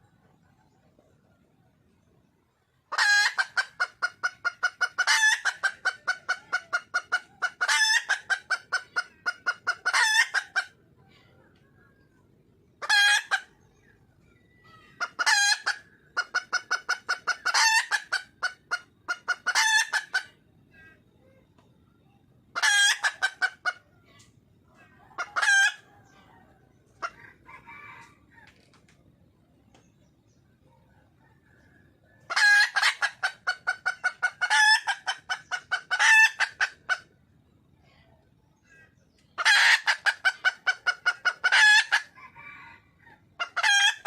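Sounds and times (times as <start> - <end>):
hen clucking: 0.0 - 44.0.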